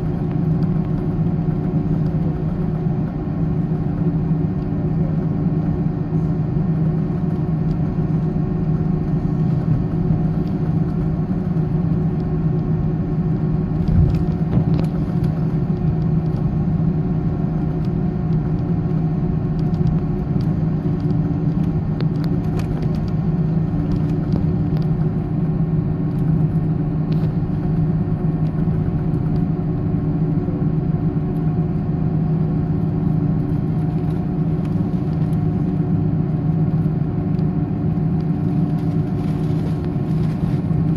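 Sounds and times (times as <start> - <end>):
jet engine cabin hum: 0.0 - 40.9.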